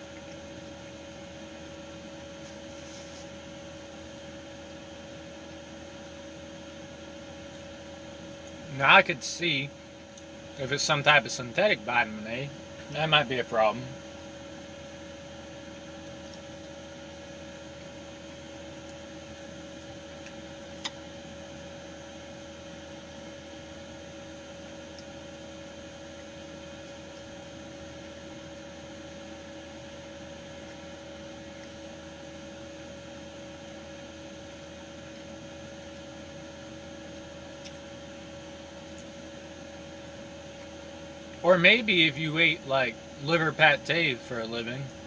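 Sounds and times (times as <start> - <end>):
steady hum with two tones: 0.0 - 45.0.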